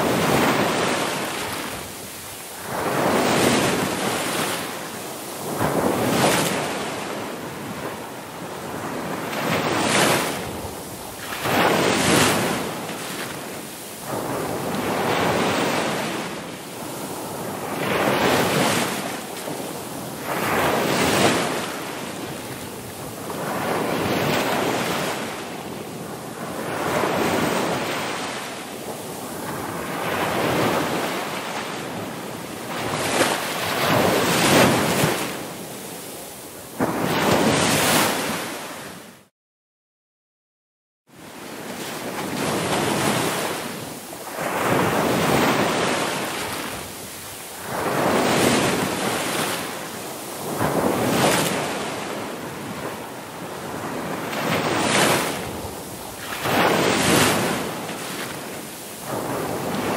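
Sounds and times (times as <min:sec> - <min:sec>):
ocean waves breaking: 0:00.0 - 0:39.2, 0:41.3 - 0:59.9.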